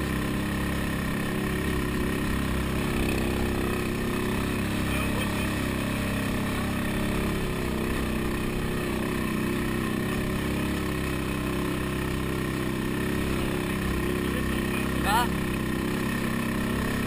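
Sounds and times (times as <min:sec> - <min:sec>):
quad engine running: 0:00.0 - 0:17.0.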